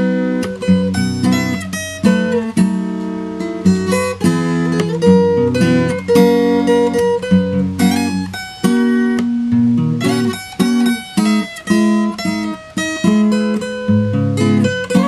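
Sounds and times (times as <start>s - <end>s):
acoustic guitar chords: 0.0s - 15.0s
plucked acoustic guitar melody: 0.0s - 15.0s.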